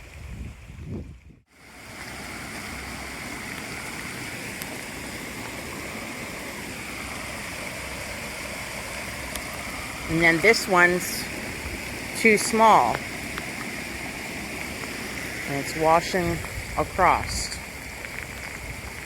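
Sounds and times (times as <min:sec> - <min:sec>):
storm water rushing through culvert: 0:00.0 - 0:19.0.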